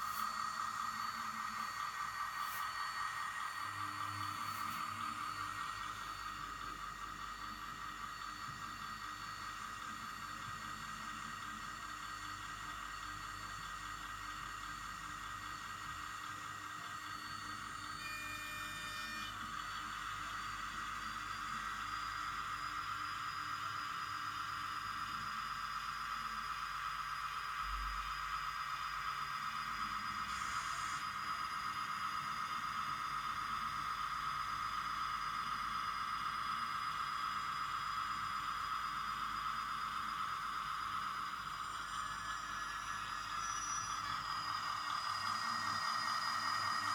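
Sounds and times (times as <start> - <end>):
model train motor whine: 0.0 - 46.9.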